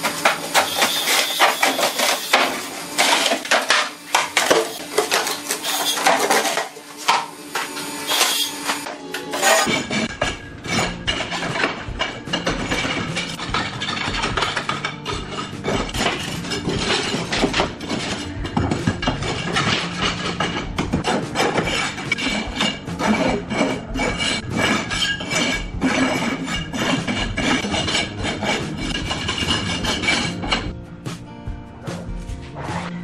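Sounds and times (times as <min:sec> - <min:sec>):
metal scraper scraping concrete: 0:00.0 - 0:06.8, 0:07.7 - 0:30.8.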